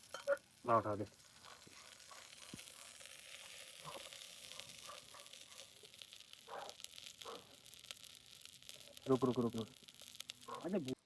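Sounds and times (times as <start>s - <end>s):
sandwich sizzling on a hot pan: 0.0s - 11.0s.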